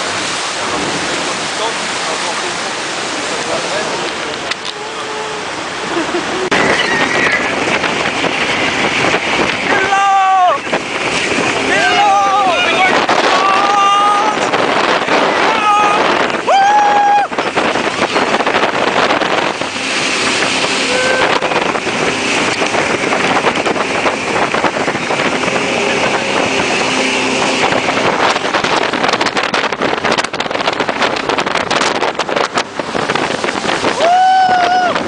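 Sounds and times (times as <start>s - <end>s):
jet boat engine: 0.0s - 35.0s
rushing water: 0.0s - 35.0s
wind buffeting microphone: 0.0s - 35.0s.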